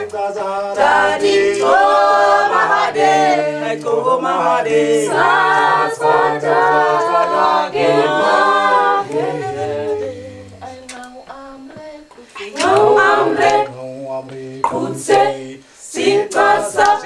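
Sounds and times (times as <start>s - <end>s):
group singing a cappella: 0.0s - 17.0s.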